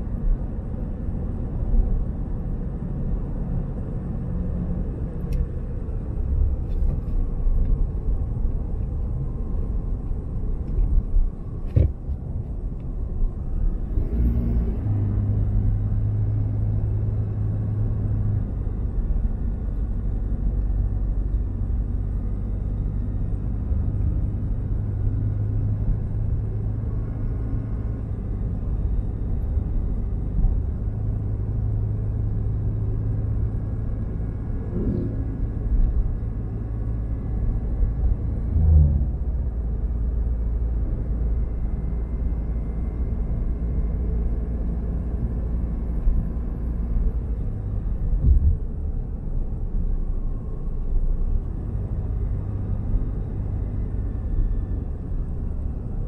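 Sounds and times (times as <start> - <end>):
diesel engine rumble inside cabin: 0.0 - 56.0.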